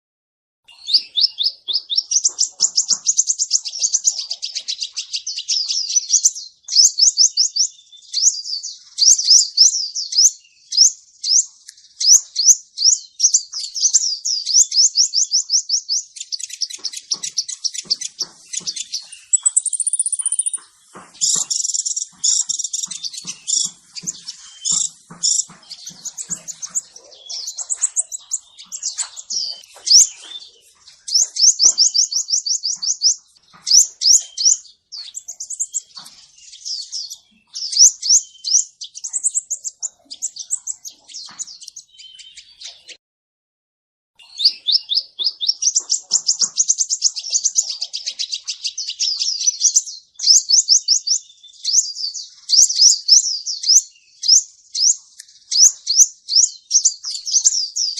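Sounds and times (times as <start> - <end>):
bird chirping and trilling: 0.7 - 43.0, 44.2 - 57.9.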